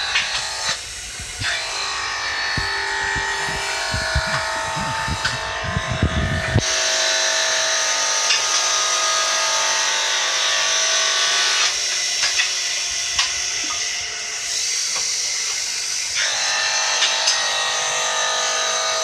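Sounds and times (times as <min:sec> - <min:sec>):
tile cutting machine whining: 0:00.0 - 0:19.0.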